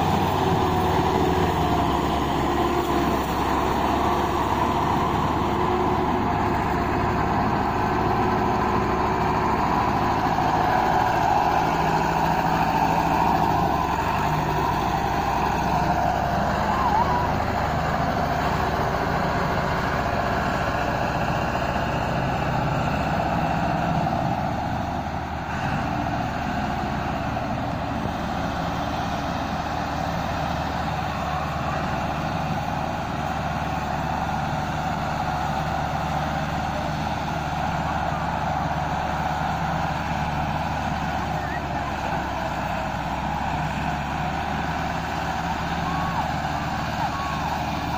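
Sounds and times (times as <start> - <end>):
second tractor working: 0.0 - 47.9
tractor diesel engine under load: 0.0 - 47.9.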